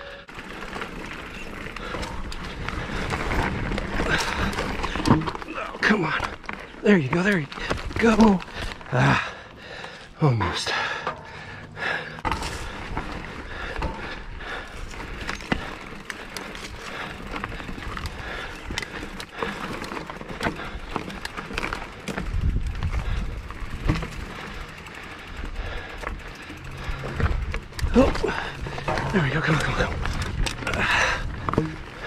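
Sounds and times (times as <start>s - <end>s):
bike clicks and knocks: 0.0s - 32.0s
bike tyres crunching over rock: 0.0s - 32.0s.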